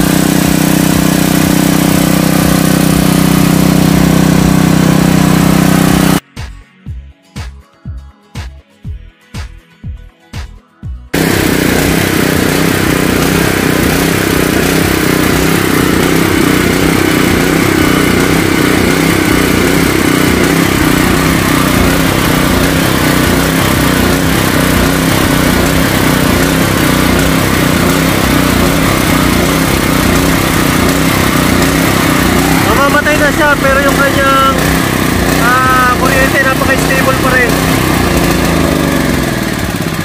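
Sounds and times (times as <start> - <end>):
generator engine running loudly: 0.0 - 6.2, 11.1 - 40.0.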